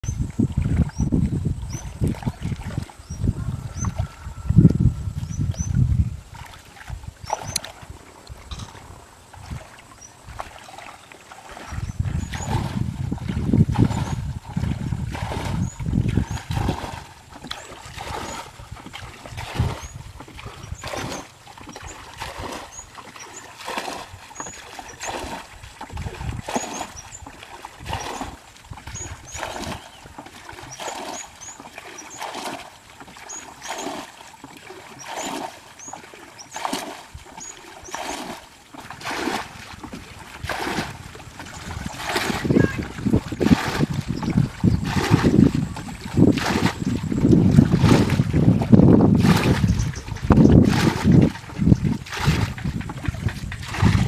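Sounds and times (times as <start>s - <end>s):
water splashing from bucket: 0.0s - 4.3s, 5.2s - 54.0s.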